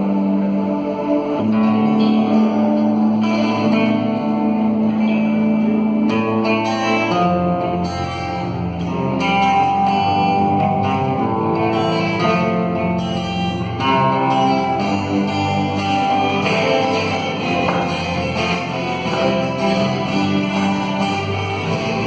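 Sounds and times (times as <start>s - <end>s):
instrumental guitar music: 0.0s - 22.0s.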